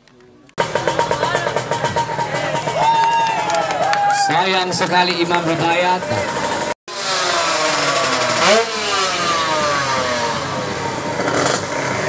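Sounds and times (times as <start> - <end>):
motorcycle engine revving: 0.6 - 3.8, 4.4 - 12.0.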